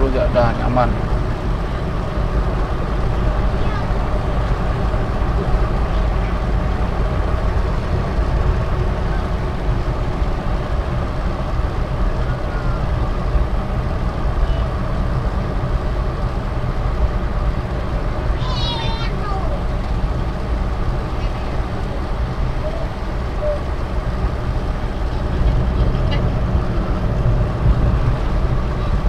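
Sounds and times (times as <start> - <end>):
car engine running: 0.0 - 29.0
tyre and road rumble: 0.0 - 29.0.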